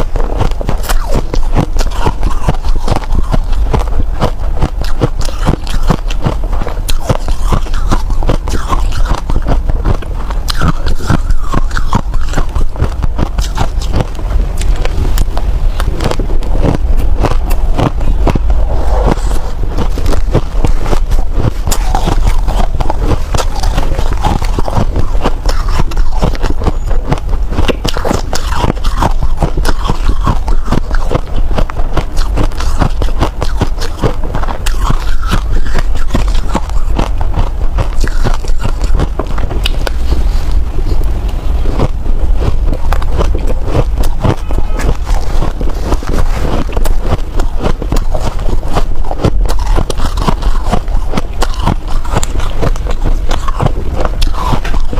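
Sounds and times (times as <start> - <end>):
chewing crunchy ice: 0.0 - 54.9.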